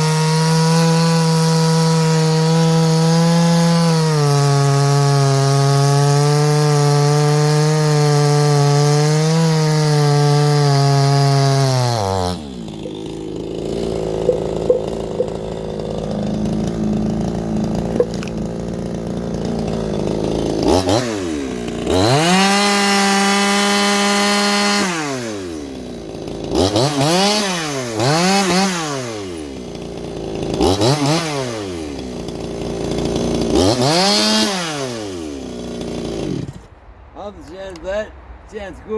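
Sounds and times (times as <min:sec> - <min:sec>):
chainsaw revving and idling: 0:00.0 - 0:36.7.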